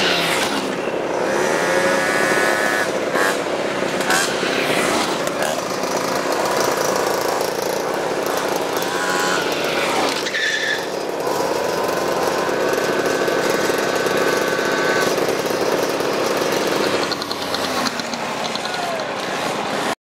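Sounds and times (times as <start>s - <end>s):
moped engines running: 0.0s - 20.0s.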